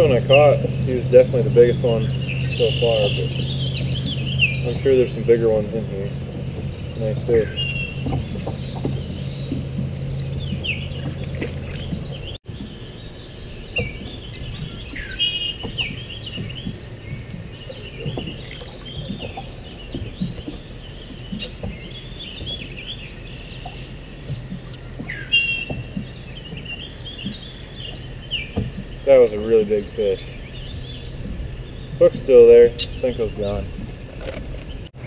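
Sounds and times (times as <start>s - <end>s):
low hum: 0.0s - 35.0s
songbirds chirping: 0.0s - 35.0s.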